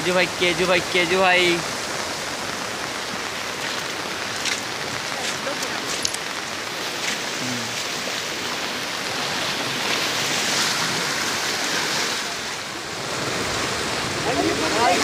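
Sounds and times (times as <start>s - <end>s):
heavy rain on an umbrella: 0.0s - 15.0s
rushing water: 0.0s - 15.0s.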